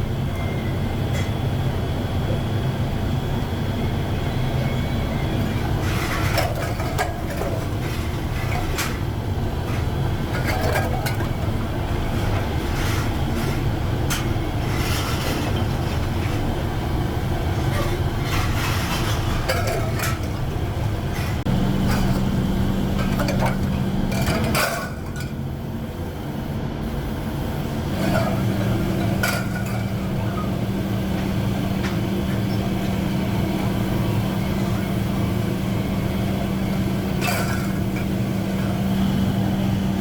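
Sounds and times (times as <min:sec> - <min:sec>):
workshop machinery droning: 0:00.0 - 0:40.0.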